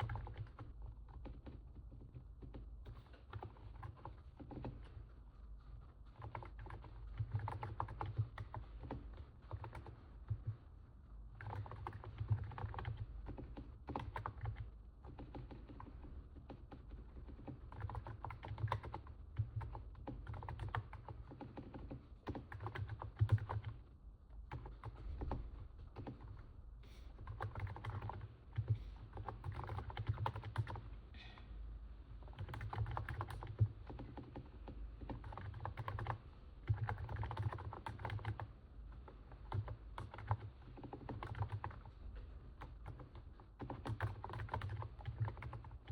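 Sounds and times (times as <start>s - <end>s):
soft keyboard keystrokes: 0.0s - 31.1s, 32.1s - 45.9s.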